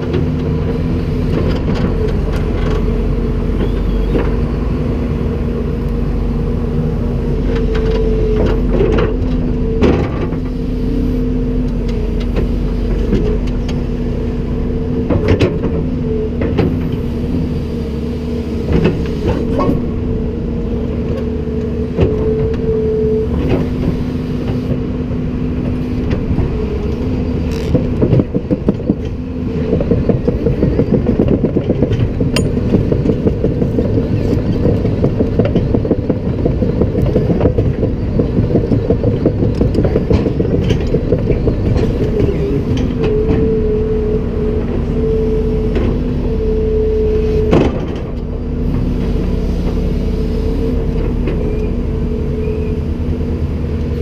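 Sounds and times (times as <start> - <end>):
excavator diesel engine humming: 0.0 - 54.0.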